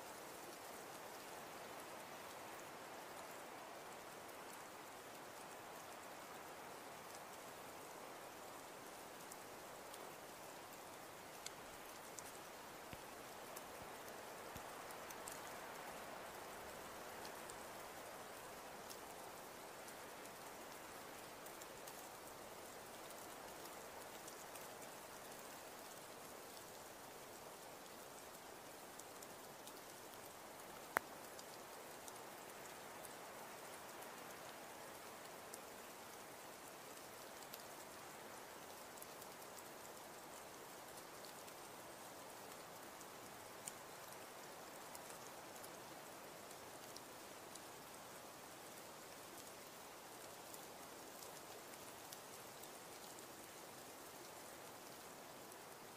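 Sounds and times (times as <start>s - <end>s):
rain patter: 0.0s - 55.9s
drip-like ticks: 0.2s - 55.9s.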